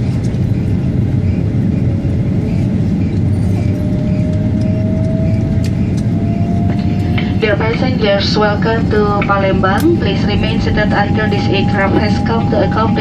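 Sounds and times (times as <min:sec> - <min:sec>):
airliner cabin rumble: 0:00.0 - 0:13.0
rising whine: 0:01.2 - 0:13.0.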